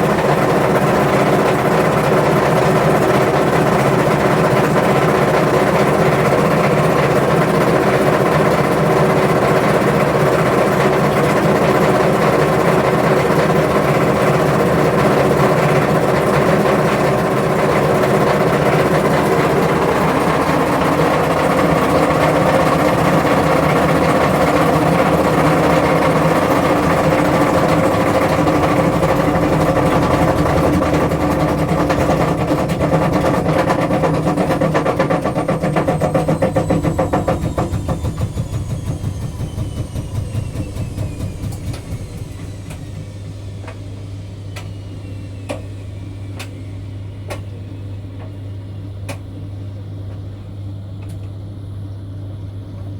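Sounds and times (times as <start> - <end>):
washing machine drum rattling: 0.0 - 43.0
motor whine: 6.1 - 48.9.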